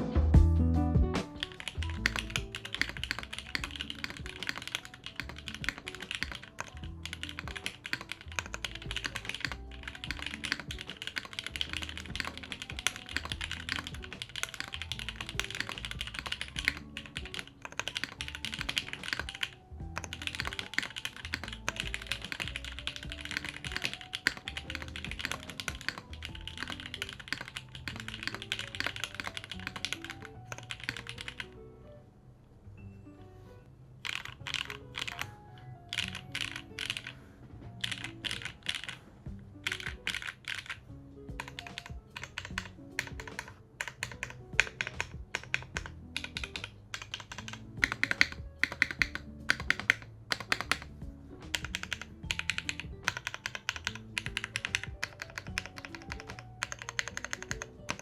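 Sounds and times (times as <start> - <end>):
background music: 0.0 - 58.0
fast mechanical keyboard typing: 1.2 - 31.5, 34.0 - 37.2, 37.8 - 58.0.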